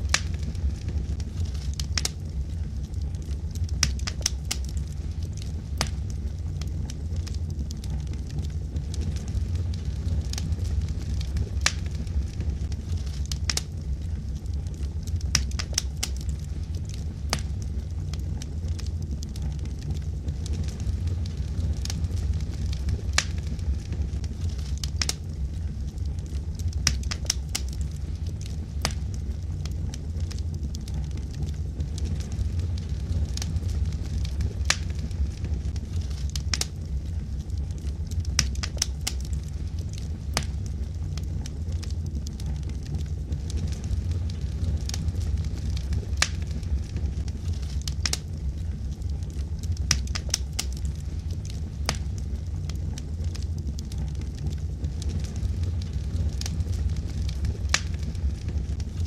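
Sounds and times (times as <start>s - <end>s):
logs crackling and popping: 0.0s - 59.0s
low rumble of flames: 0.0s - 59.0s.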